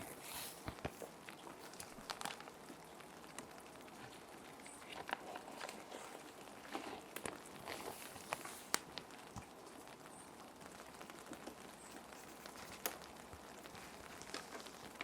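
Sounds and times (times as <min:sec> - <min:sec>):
plastic sheets crinkling: 0:00.0 - 0:15.0
rain hissing: 0:00.0 - 0:15.0.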